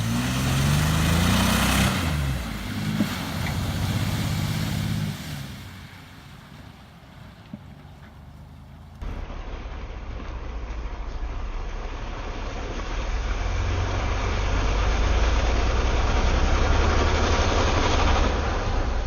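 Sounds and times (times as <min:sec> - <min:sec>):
pickup truck engine: 0:00.0 - 0:19.0
tyre noise off-road: 0:00.0 - 0:19.0.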